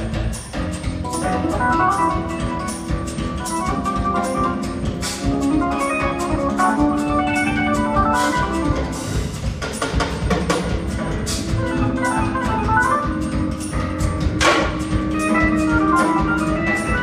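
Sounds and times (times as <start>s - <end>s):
band with orchestra playing: 0.0s - 17.0s
drums with cymbal strokes: 0.0s - 17.0s
organ-like keyboard chords: 0.0s - 17.0s.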